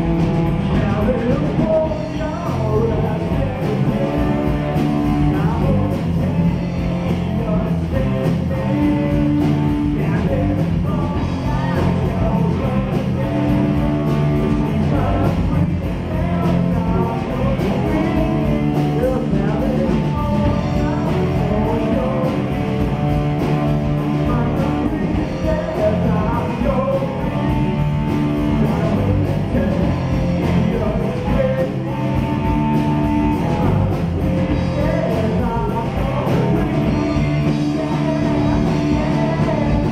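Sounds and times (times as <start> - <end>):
live rock band playing: 0.0 - 39.9
person singing: 0.6 - 39.9.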